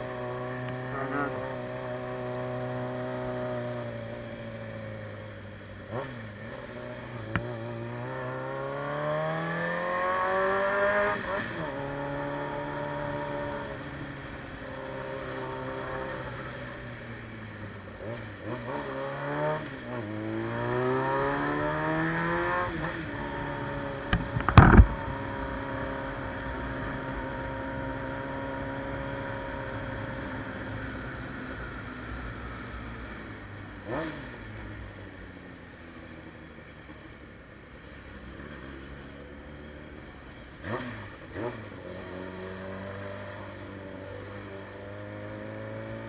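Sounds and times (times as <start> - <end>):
motorcycle engine revving: 0.0 - 35.0, 38.2 - 46.0.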